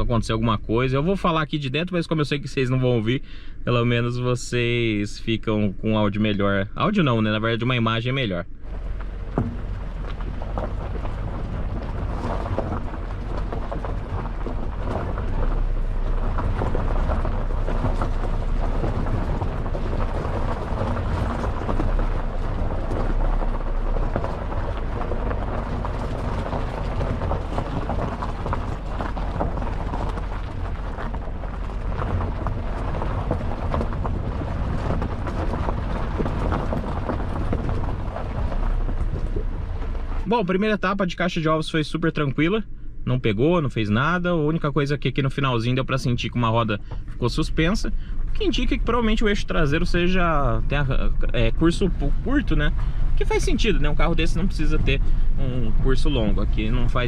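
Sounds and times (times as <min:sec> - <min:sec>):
tyres crackling on gravel: 0:00.0 - 0:42.8, 0:43.5 - 0:57.0
car engine low rumble: 0:00.0 - 0:57.0.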